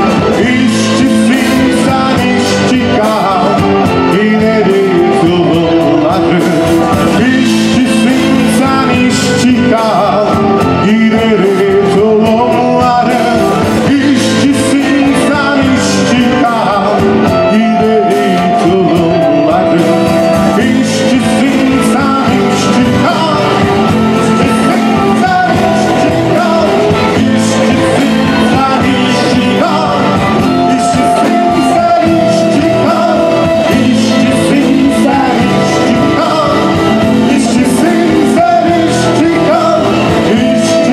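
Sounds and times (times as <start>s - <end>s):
live band playing: 0.0s - 40.9s
person singing: 0.0s - 40.9s.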